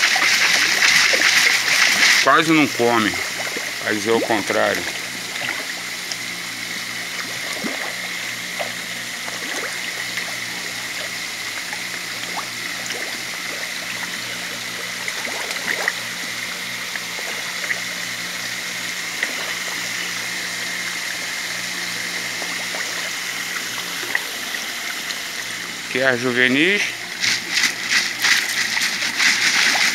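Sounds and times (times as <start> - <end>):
fish splashing and popping: 0.0 - 25.8, 27.0 - 29.9
water running into tank: 0.0 - 29.9.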